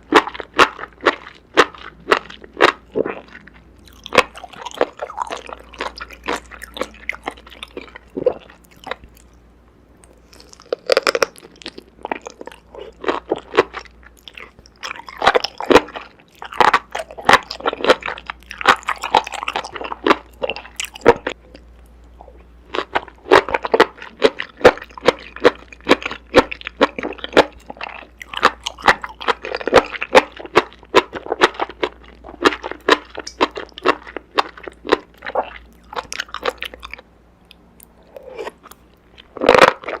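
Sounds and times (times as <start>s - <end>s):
crunchy chewing: 0.0s - 9.4s, 10.0s - 40.0s.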